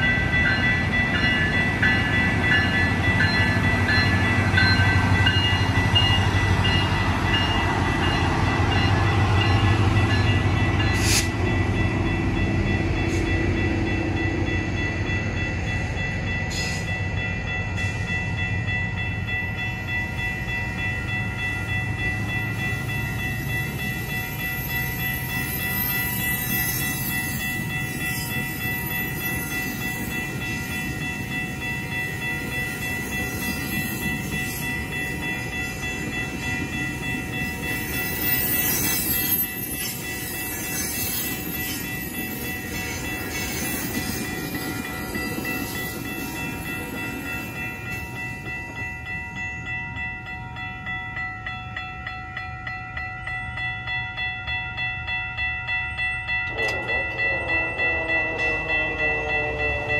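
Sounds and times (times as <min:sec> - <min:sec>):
train wheels clattering on rails: 0:00.0 - 0:51.6
level crossing warning bell: 0:00.0 - 0:59.9.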